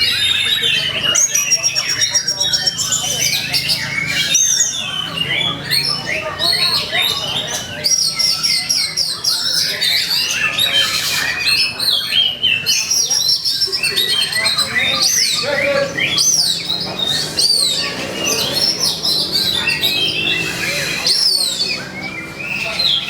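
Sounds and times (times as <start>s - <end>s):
songbird singing varied whistles: 0.0s - 23.0s.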